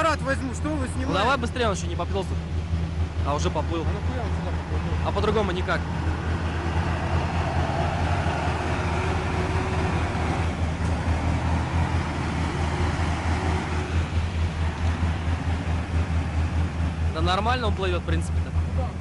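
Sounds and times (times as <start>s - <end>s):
truck engine pulling hard: 0.0s - 19.0s.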